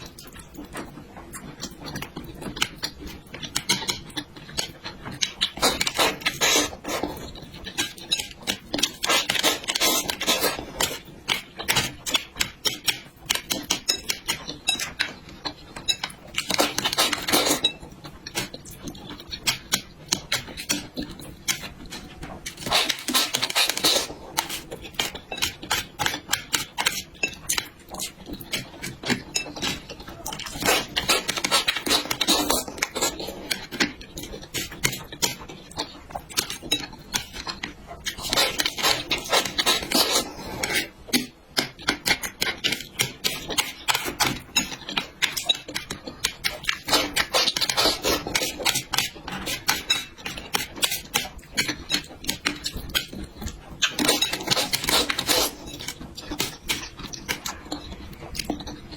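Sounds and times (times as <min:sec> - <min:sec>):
chewing with wet mouth clicks: 0:00.0 - 0:58.9.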